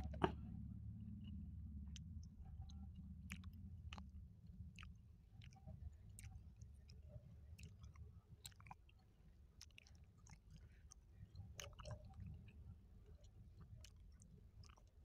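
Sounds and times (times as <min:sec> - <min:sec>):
low steady hum: 0:00.0 - 0:15.0
chewing food mouth clicks: 0:01.2 - 0:15.0.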